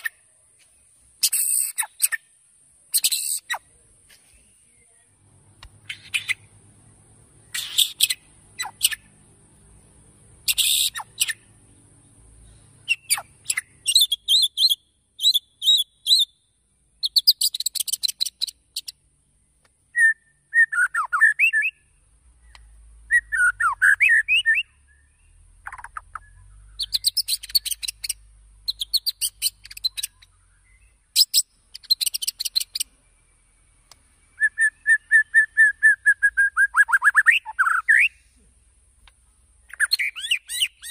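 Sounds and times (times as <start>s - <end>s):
songbird singing trills: 0.0s - 40.9s.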